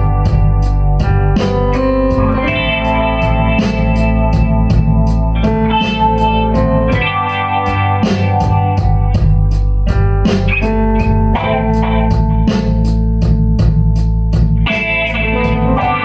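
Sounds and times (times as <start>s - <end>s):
bass guitar: 0.0s - 16.0s
drum kit with cymbals: 0.0s - 16.0s
electric guitar: 0.0s - 16.0s.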